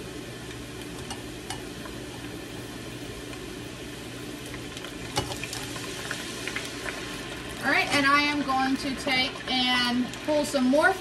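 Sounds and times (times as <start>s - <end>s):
fries sizzling in oil: 0.0s - 11.0s.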